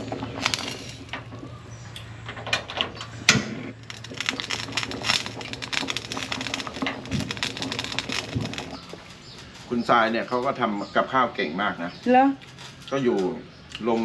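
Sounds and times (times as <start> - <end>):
water boiling and bubbling: 0.0 - 11.4.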